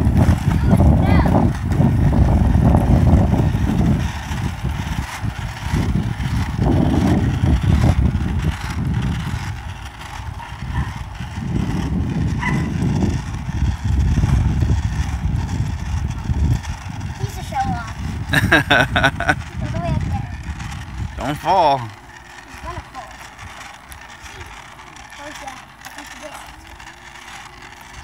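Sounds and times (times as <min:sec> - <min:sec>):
board wheels rolling on asphalt: 0:00.0 - 0:28.0
wind buffeting microphone: 0:00.0 - 0:28.0.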